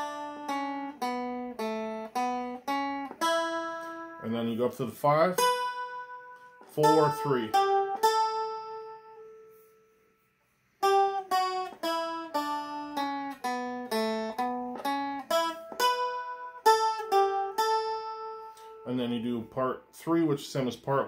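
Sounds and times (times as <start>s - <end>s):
plucked string melody notes: 0.0s - 21.0s.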